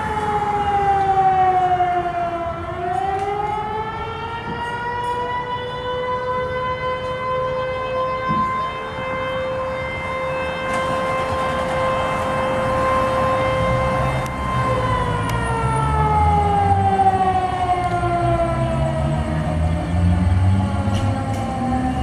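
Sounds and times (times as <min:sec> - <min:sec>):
fire station siren wailing: 0:00.0 - 0:22.0.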